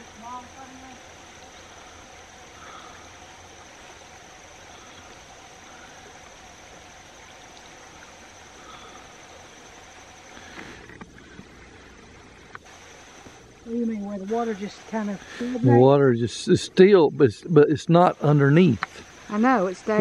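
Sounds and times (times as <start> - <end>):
creek water trickling: 0.0 - 20.0.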